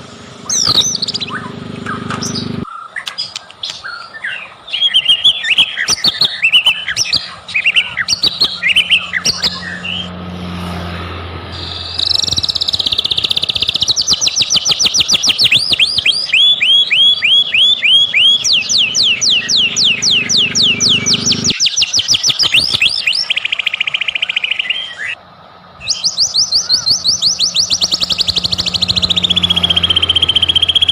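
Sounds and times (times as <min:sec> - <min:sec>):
songbird singing: 0:00.0 - 0:30.9.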